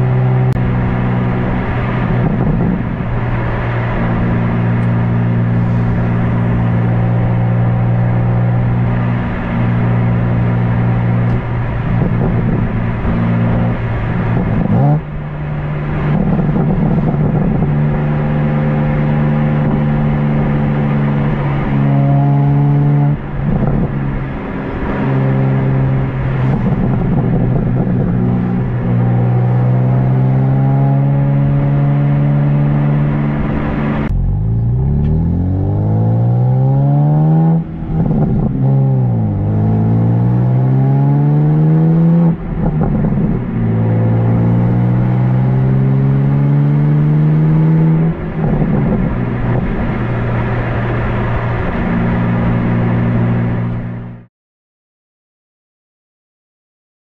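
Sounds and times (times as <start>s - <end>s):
car exhaust engine note: 0.0s - 54.2s.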